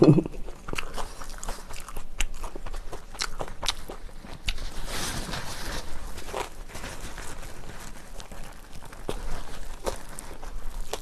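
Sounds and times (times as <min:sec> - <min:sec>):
biting into pancake: 0:00.0 - 0:11.0
chewing with mouth clicks: 0:00.0 - 0:11.0.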